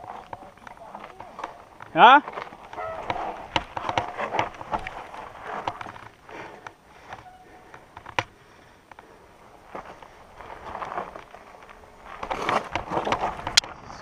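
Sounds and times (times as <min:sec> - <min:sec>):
bike rattling over rocks: 0:00.0 - 0:14.0.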